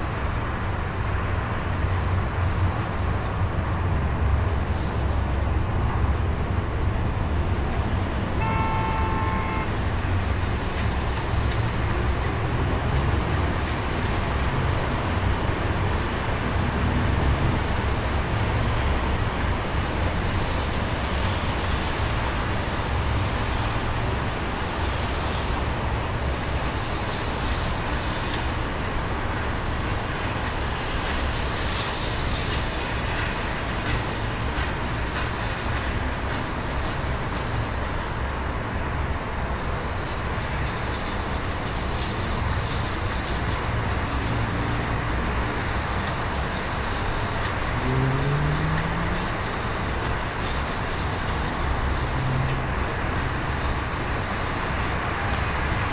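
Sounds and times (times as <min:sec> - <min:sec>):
distant steam train: 0:00.0 - 0:55.9.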